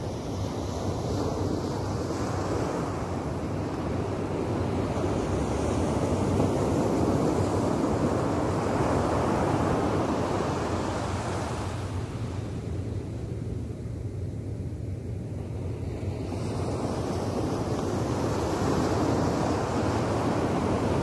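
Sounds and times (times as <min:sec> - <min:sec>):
waves breaking on beach: 0:00.0 - 0:12.9, 0:15.4 - 0:21.0.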